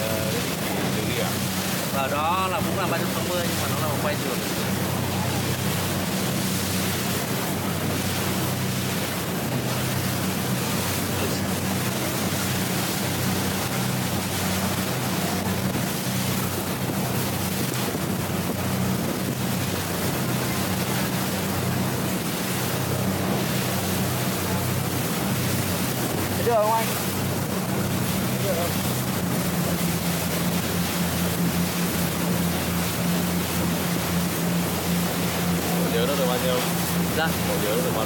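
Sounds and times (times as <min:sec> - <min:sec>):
boat engine hum: 0:00.0 - 0:38.0
water rushing along hull: 0:00.0 - 0:38.0
wind buffeting microphone: 0:00.0 - 0:38.0.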